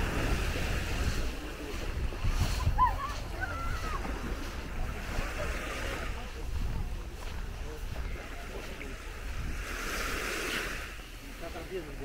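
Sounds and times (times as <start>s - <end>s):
wind rumbling on microphone: 0.0s - 11.6s
faint distant voices: 0.0s - 12.0s
waves washing onto shore: 0.0s - 12.0s.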